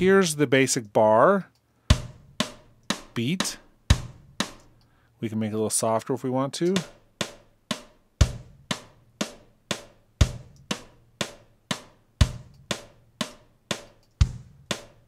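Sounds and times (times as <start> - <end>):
steady drum metronome hits: 0.0 - 1.2, 1.8 - 4.8, 6.6 - 15.0.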